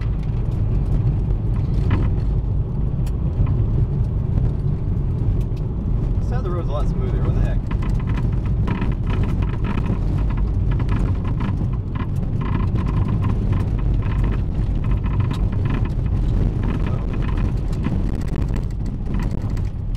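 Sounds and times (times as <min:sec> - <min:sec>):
clunks under car: 0:00.0 - 0:04.6, 0:07.4 - 0:19.9
car road rumble from inside: 0:00.0 - 0:19.9.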